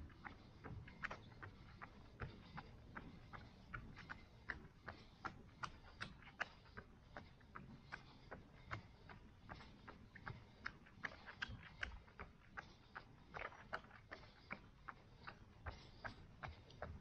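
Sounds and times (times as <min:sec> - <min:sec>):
running footsteps: 0:00.0 - 0:17.0.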